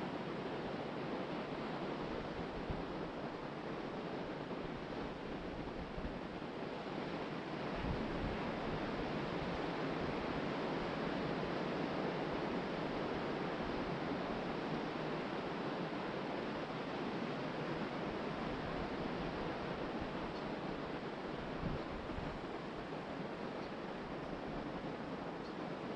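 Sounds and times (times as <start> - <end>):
wind: 0.0 - 25.9.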